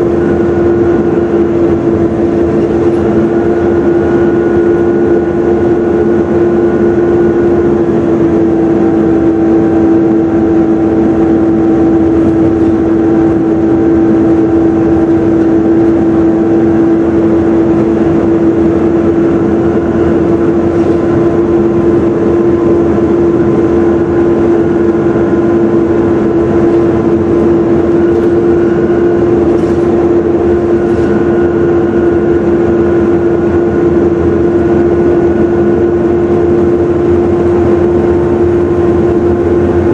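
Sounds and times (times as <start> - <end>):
bus whine: 0.0 - 39.9
engine and road rumble: 0.0 - 39.9.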